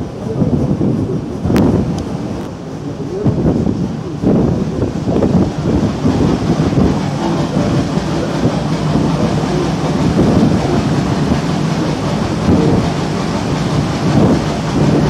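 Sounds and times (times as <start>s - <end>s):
steamboat engine rumble: 0.0s - 15.0s
water wash along hull: 0.0s - 15.0s.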